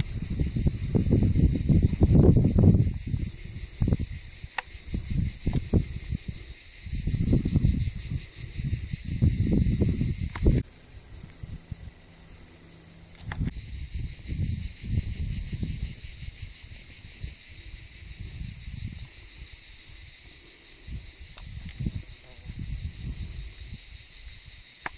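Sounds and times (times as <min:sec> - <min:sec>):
wind buffeting microphone: 0:00.0 - 0:12.3, 0:13.2 - 0:24.8
high chorus of insects: 0:00.0 - 0:24.9.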